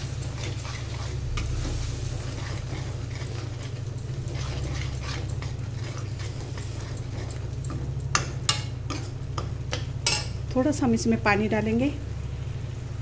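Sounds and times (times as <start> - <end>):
sauce frying in a pan: 0.0 - 10.5
steady low hum: 0.0 - 13.0.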